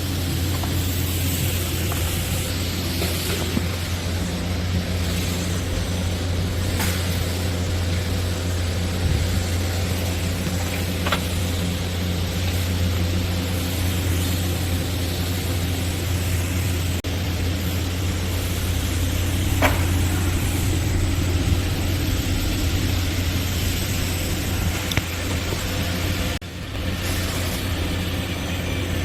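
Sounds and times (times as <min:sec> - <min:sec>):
low hum of welding set: 0:00.0 - 0:29.0
welding hiss: 0:00.0 - 0:29.0.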